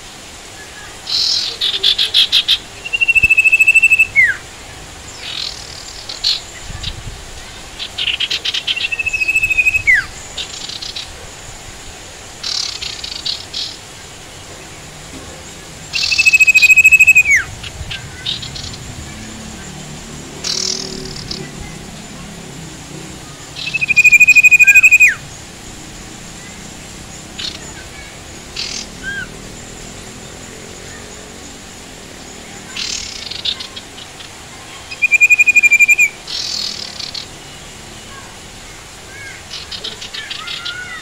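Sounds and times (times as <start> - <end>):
rain hissing: 0.0 - 35.0
songbird singing: 0.0 - 41.0.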